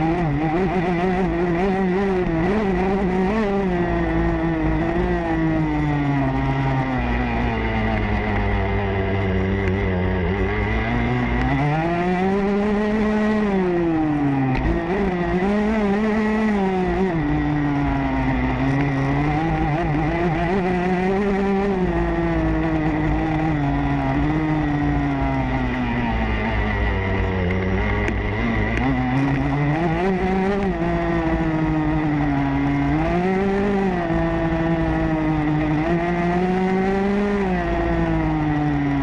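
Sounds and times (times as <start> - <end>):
motorbike engine revving: 0.0 - 39.0.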